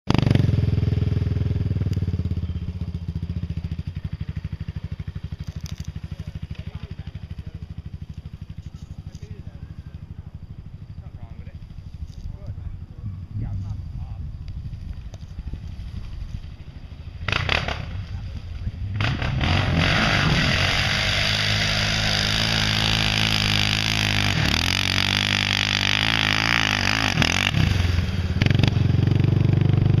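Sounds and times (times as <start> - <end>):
quad engine under load: 0.1 - 30.0.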